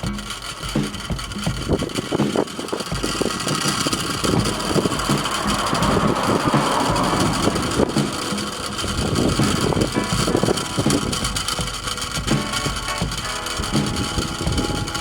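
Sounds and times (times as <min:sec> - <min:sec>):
whirligig propeller clattering: 0:00.0 - 0:15.0
gusty wind on microphone: 0:01.0 - 0:15.0.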